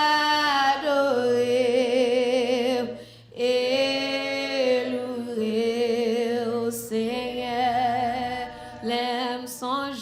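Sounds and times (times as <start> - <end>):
woman singing worship song: 0.0 - 10.0.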